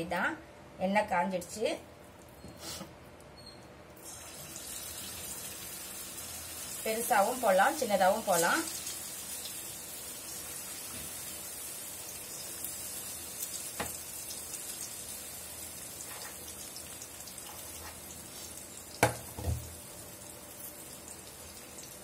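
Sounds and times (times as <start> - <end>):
food deep-frying in hot oil: 4.0 - 22.0.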